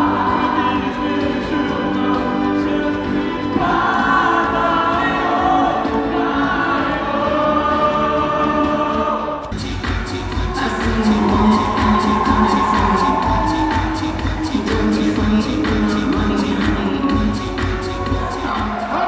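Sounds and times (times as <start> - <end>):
music with strong bass: 0.0 - 19.0.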